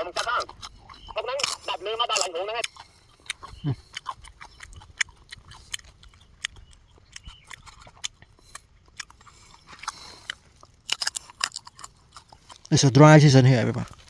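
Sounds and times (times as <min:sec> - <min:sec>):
person chewing banana: 0:00.0 - 0:13.0, 0:13.7 - 0:14.0.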